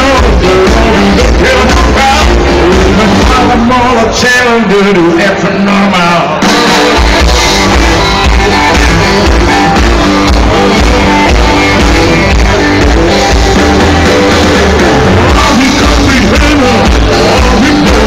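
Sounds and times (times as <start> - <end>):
loud music with heavy bass beat: 0.0 - 4.6, 6.0 - 18.0.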